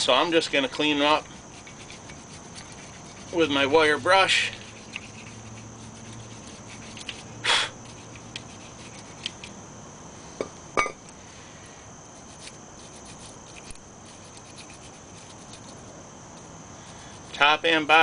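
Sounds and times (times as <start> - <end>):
wire brush scratching metal: 0.7 - 9.5, 12.1 - 18.0.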